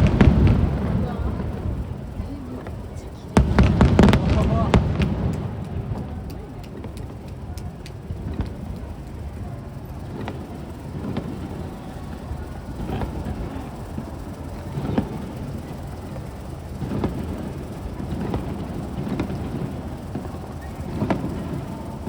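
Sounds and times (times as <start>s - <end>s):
fireworks shells bursting: 0.0s - 22.0s.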